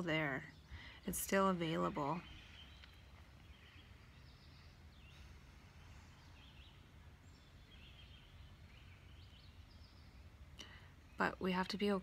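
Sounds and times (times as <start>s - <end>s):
distant birds chirping: 0.0s - 12.0s
low steady rumble: 0.0s - 12.0s.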